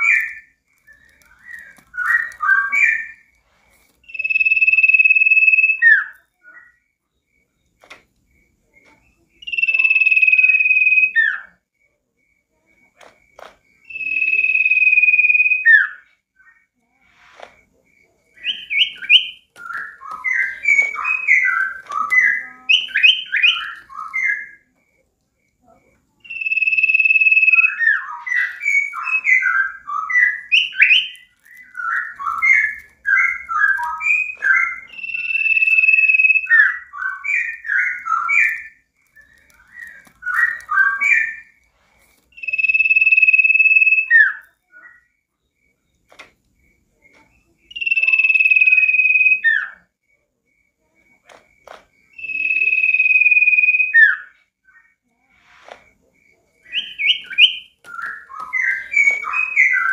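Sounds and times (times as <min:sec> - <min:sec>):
bird singing: 0:00.0 - 0:03.4, 0:04.0 - 0:11.6, 0:13.7 - 0:16.8, 0:18.0 - 0:41.7, 0:42.3 - 0:49.9, 0:52.0 - 0:55.1, 0:56.3 - 0:59.9.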